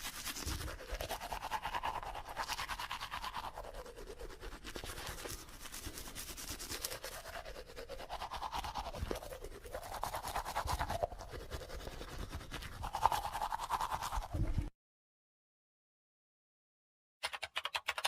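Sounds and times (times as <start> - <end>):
toothbrush scrubbing teeth: 0.0 - 14.7.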